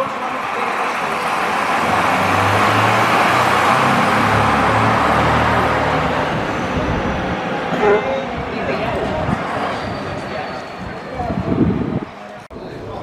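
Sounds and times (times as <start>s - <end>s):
vehicle engine humming: 0.0s - 12.4s
broad rushing noise: 0.0s - 13.0s.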